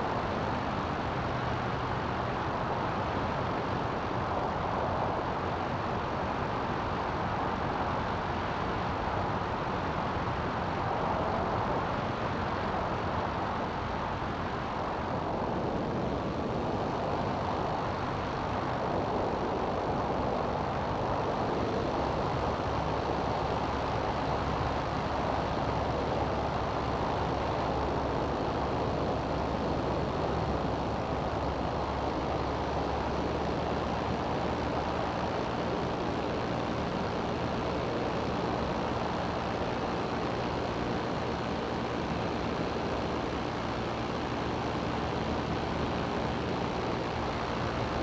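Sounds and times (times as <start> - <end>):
aircraft engine running: 0.0 - 48.0.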